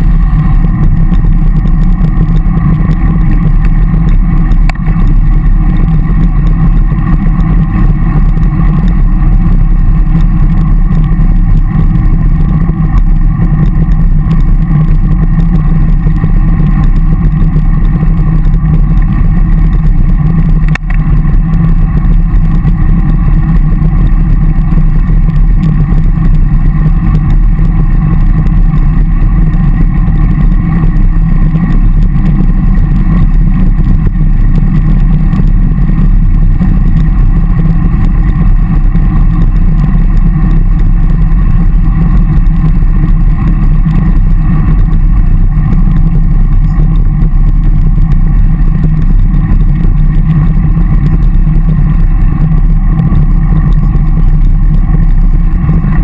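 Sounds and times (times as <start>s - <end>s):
wind rumble on camera microphone: 0.0s - 56.0s.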